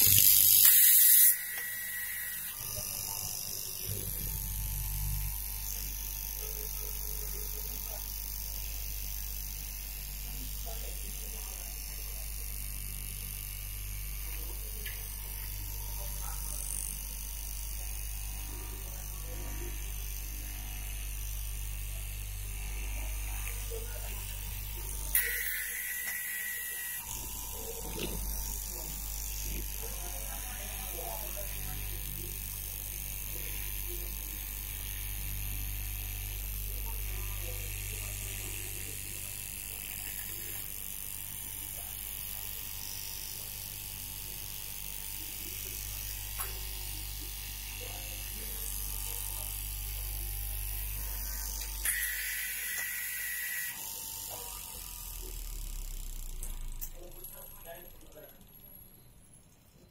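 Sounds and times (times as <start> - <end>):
cutting machine motor hum: 0.0 - 58.3.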